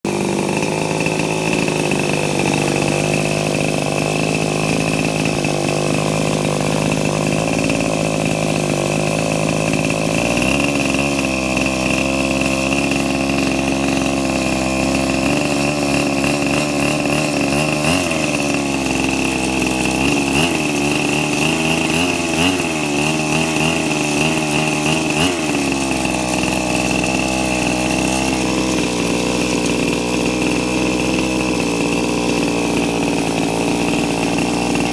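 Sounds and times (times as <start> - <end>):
model helicopter engine buzzing: 0.1 - 34.9.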